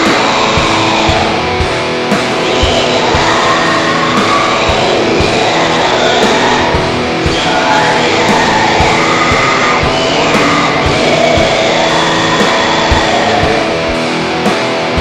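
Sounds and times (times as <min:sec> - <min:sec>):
distorted electric guitars: 0:00.0 - 0:15.0.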